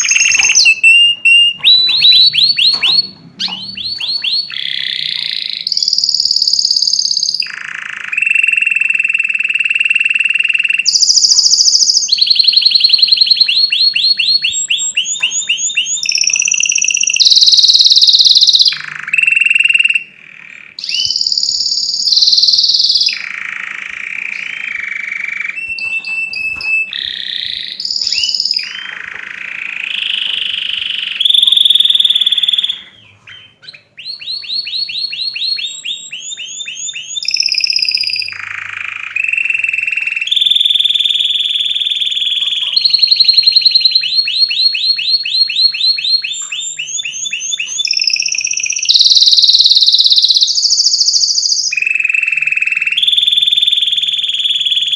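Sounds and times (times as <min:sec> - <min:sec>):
canary singing: 0:00.0 - 0:54.9.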